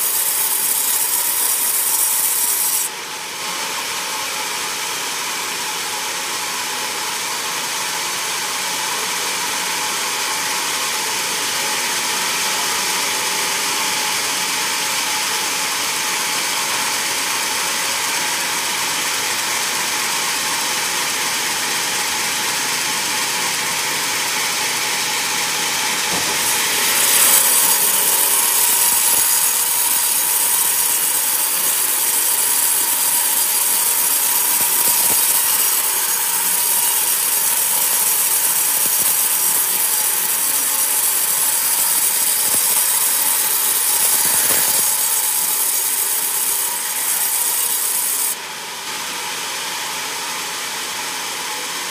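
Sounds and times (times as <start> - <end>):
band saw cutting log: 0.0 - 5.8, 6.5 - 51.7.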